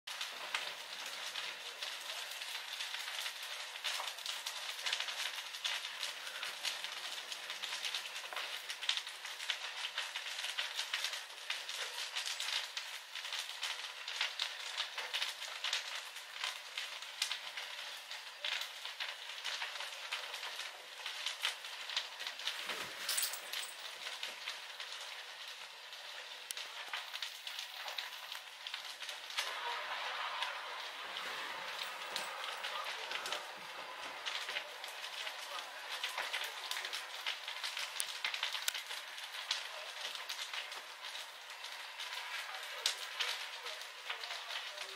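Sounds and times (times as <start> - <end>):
fire crackling and popping: 0.1 - 44.9
sharp crack of fire: 0.1 - 44.9.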